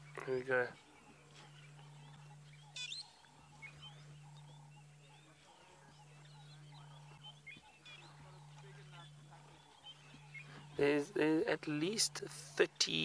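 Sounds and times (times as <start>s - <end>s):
faint bird chirps and trills: 0.0s - 13.0s
steady low hum: 0.0s - 13.0s.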